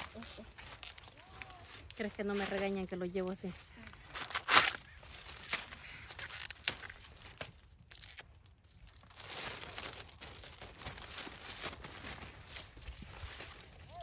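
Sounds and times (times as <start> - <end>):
corn husks tearing and snapping: 0.0 - 2.8, 3.9 - 14.0
plastic bag rustling: 0.0 - 14.0.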